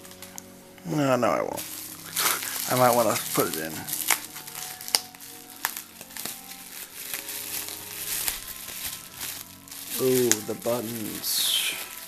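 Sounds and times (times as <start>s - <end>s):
plastic packaging crinkling: 0.0s - 12.0s
soft background music: 0.0s - 12.0s.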